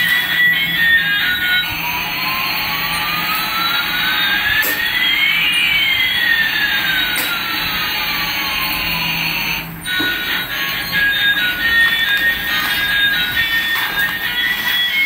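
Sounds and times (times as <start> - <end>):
toy jet engine hiss and whine: 0.0 - 15.0.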